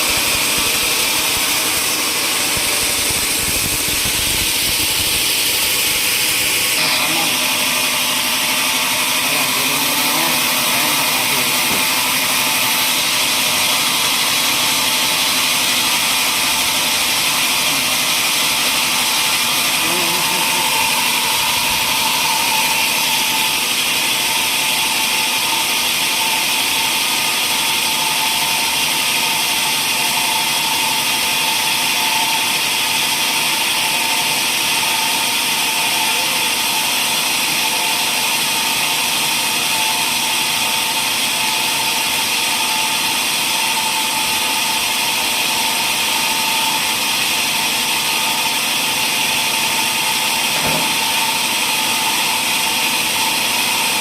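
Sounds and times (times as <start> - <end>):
power tool running on wood: 0.0 - 54.0.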